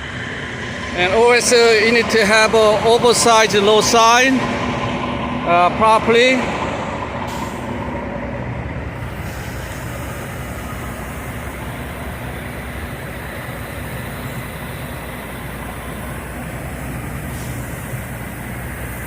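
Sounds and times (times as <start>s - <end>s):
road rumble: 0.0s - 19.0s
vehicle engine hum: 0.0s - 19.0s.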